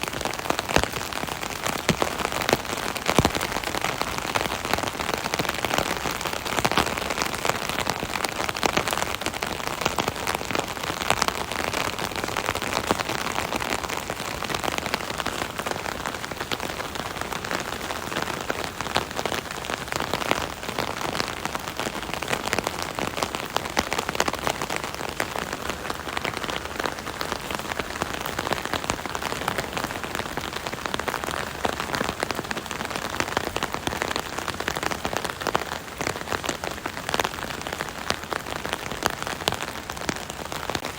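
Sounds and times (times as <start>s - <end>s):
rain drumming on an umbrella: 0.0s - 40.9s.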